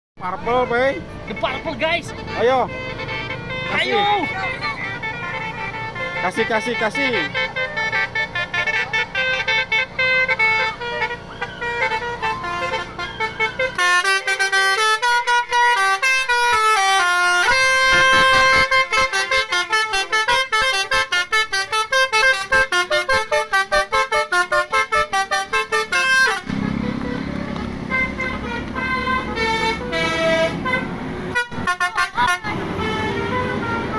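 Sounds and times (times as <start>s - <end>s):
melodic car horn notes: 0.3s - 33.9s.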